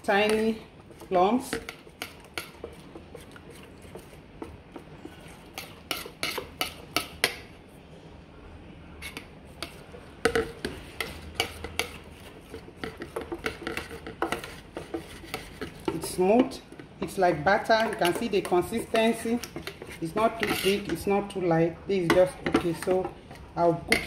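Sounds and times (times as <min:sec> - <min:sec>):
spoon stirring thick paste: 0:00.0 - 0:07.5, 0:09.0 - 0:24.0.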